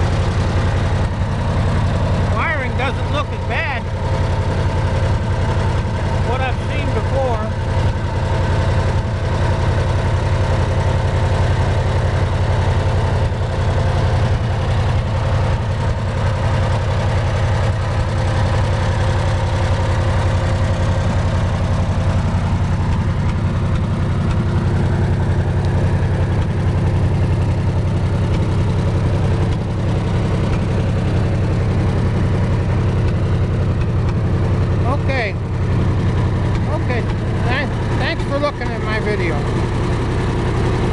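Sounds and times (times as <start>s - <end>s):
welder engine running: 0.0s - 40.9s.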